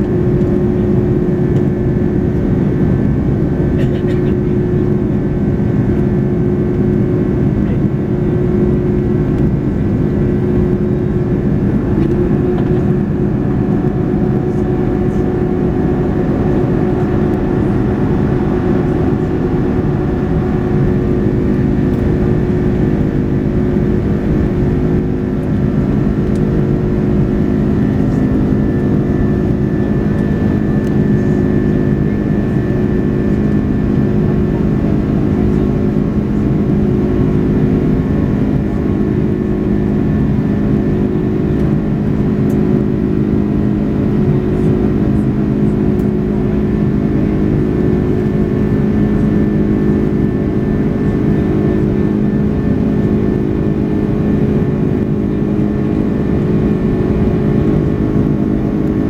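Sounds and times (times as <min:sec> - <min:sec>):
jet engine hum inside cabin: 0:00.0 - 0:59.0.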